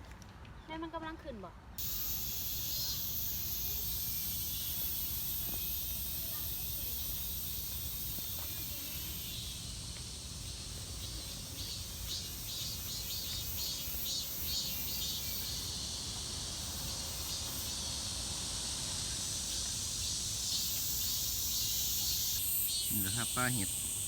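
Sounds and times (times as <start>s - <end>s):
constant high buzz: 1.8s - 24.0s
insects chirping: 1.8s - 24.0s.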